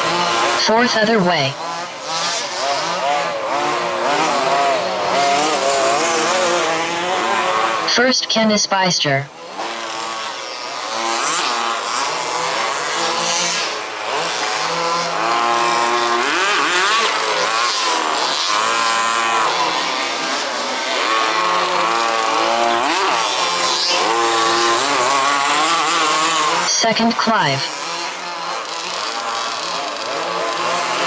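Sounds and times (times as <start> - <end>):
rc buggy engines revving: 0.0 - 8.4, 9.3 - 31.0.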